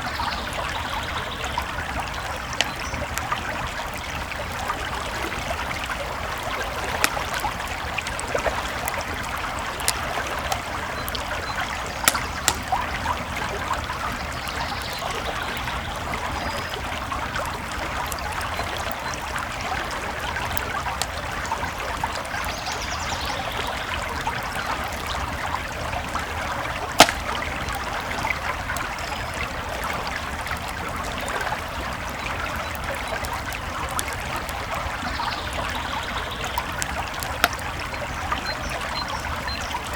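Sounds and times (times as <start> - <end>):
creek flowing: 0.0 - 39.9
campfire crackling and popping: 0.2 - 39.9.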